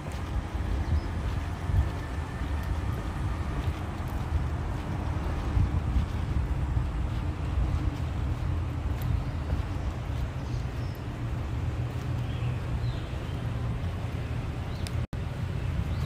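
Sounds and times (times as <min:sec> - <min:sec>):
steady low street rumble: 0:00.0 - 0:16.0.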